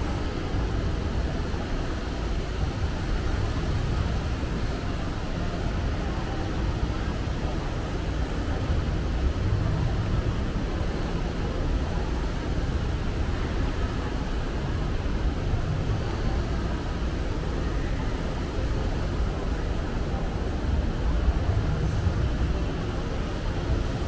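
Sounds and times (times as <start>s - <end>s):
faint indistinct voices: 0.0s - 24.0s.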